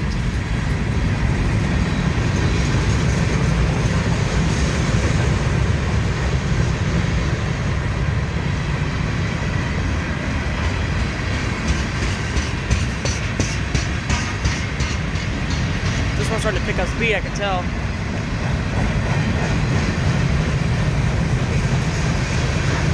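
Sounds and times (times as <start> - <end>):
train cars rumbling past: 0.0 - 22.9
wheels clicking over rail joints: 0.0 - 22.9.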